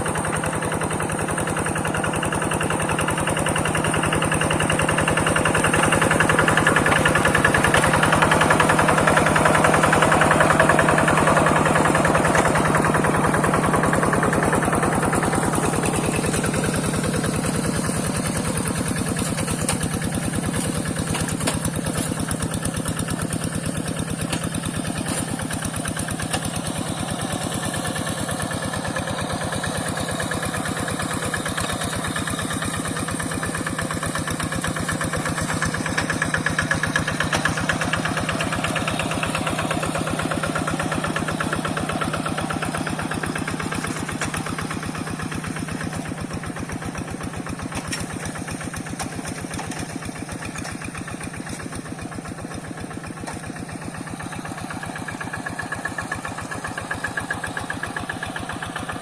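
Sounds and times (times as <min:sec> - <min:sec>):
diesel tractor engine chugging: 0:00.0 - 0:59.0.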